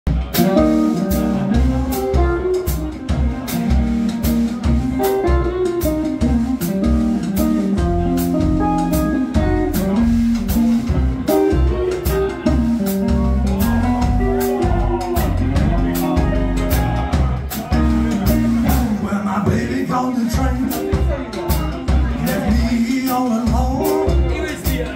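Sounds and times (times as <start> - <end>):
drum kit steady beat: 0.1 - 24.9
electric guitar playing riffs: 0.1 - 24.9
walking upright bass: 0.1 - 24.9.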